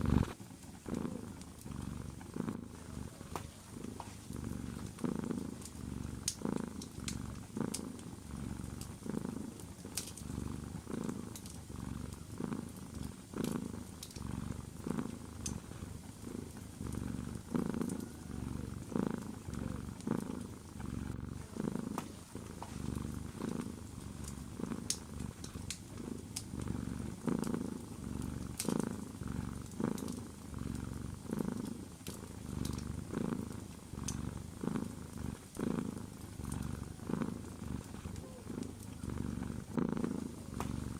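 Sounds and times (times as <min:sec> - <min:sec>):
cat purring: 0:00.0 - 0:40.9
wood fire crackling: 0:00.1 - 0:39.7.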